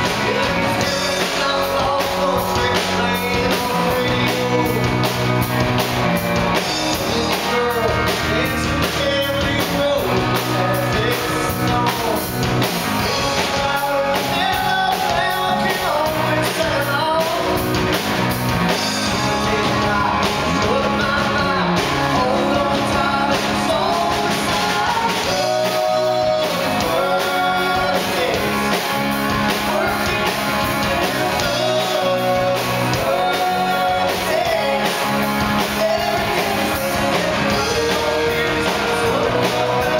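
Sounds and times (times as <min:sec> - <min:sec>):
drums: 0:00.0 - 0:39.9
electric guitars: 0:00.0 - 0:39.9
man singing lead: 0:00.0 - 0:39.9.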